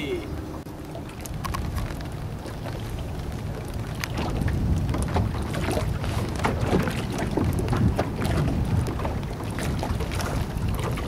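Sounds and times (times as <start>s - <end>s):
waves slapping against boat: 0.0s - 11.0s
wind buffeting microphone: 0.0s - 11.0s.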